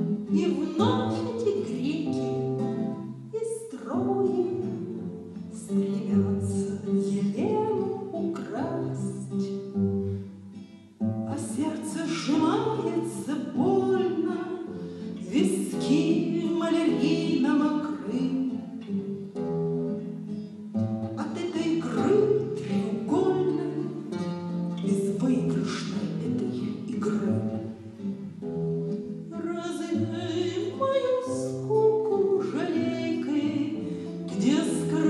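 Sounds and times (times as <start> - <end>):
woman singing: 0.0 - 9.6, 11.2 - 18.8, 21.1 - 27.7, 29.3 - 35.0
classical guitar: 0.0 - 35.0.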